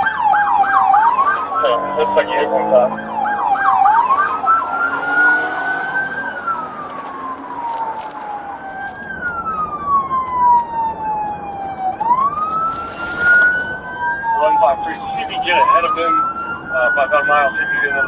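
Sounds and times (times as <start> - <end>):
fainter second siren: 0.0 - 18.0
police siren wailing: 0.0 - 18.0
road noise: 0.0 - 18.0.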